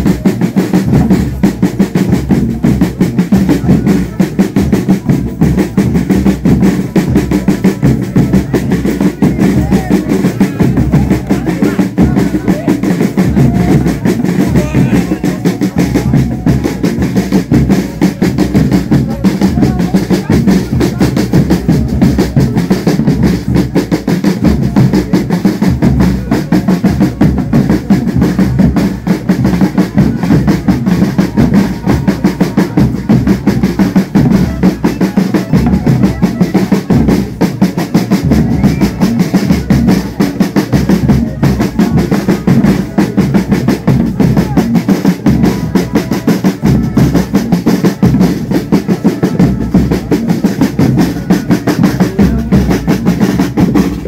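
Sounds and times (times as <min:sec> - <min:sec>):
fast dense drumming: 0:00.0 - 0:54.0.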